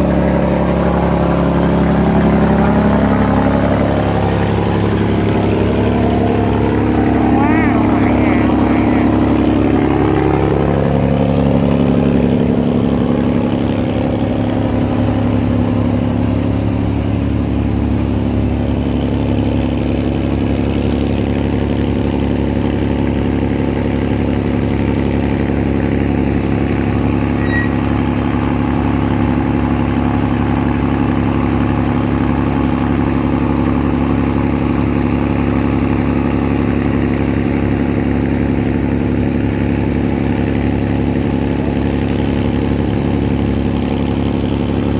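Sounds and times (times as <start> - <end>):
engine droning steadily: 0.0 - 44.9.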